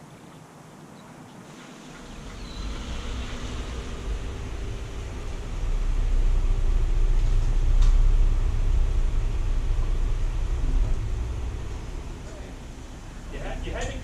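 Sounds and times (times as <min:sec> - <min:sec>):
car engine rumble: 0:01.5 - 0:14.0.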